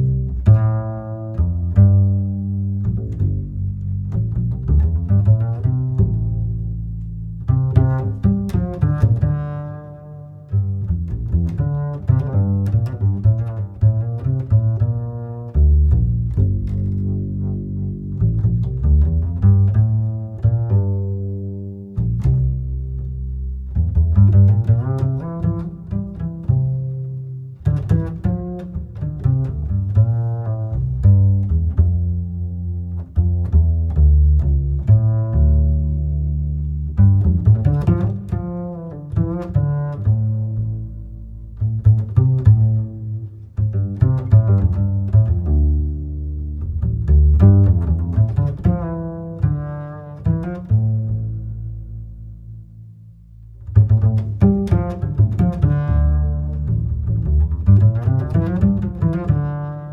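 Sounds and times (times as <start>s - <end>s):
instrumental music with plucked strings: 0.0s - 59.9s.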